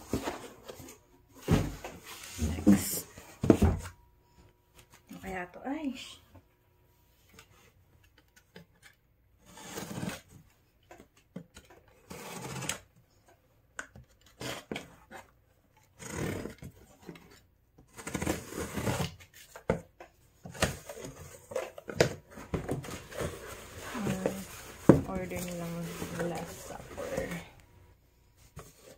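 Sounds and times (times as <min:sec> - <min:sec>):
cardboard rustling and scraping: 0:00.0 - 0:04.0, 0:07.2 - 0:12.9, 0:14.0 - 0:27.7, 0:28.4 - 0:28.9.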